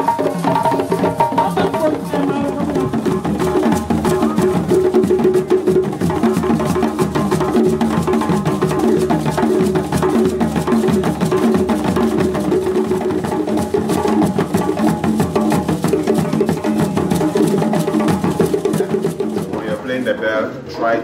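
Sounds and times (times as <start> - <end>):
hand drums playing: 0.0 - 19.9.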